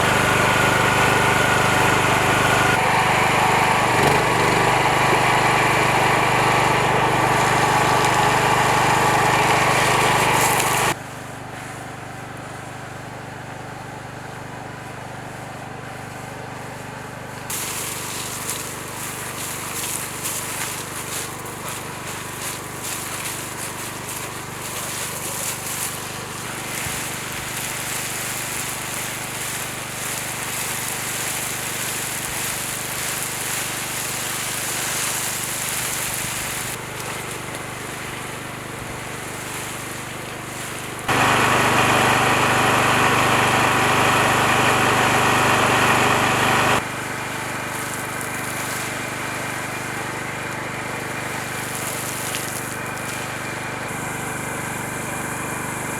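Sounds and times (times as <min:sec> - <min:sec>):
small generator engine running: 0:00.0 - 0:55.9.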